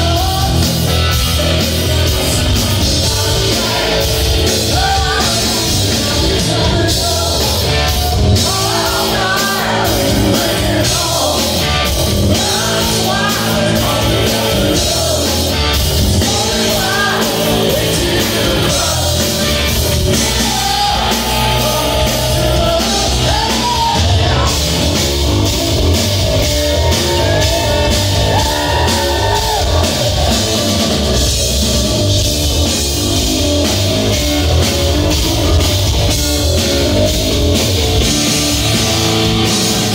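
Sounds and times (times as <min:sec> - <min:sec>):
person singing: 0:00.0 - 0:38.1
drum kit: 0:00.0 - 0:39.9
electric bass: 0:00.0 - 0:39.9
electric guitar: 0:00.0 - 0:39.9.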